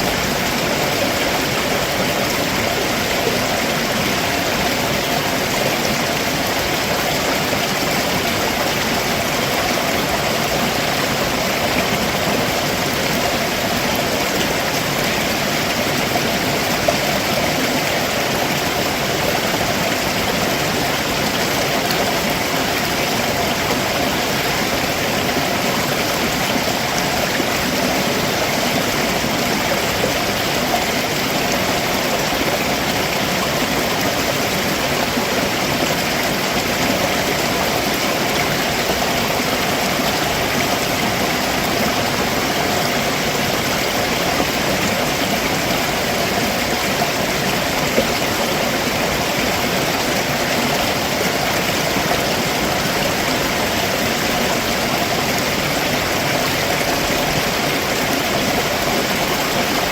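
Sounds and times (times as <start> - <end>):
stream water running over rocks: 0.0 - 59.9.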